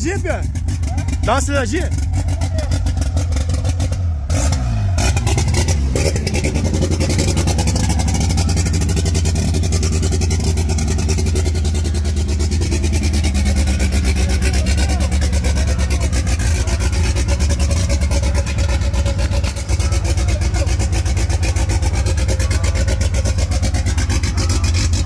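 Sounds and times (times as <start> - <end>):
car engine revving loud exhaust: 0.0 - 25.0.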